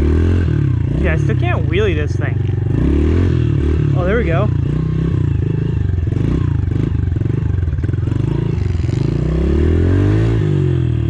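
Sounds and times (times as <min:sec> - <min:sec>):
pit bike engine running and revving: 0:00.0 - 0:11.0.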